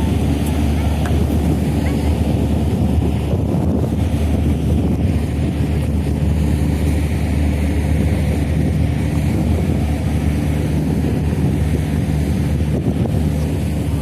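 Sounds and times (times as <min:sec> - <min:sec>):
ferry engines humming: 0:00.0 - 0:14.0
wind noise on microphone: 0:00.0 - 0:14.0.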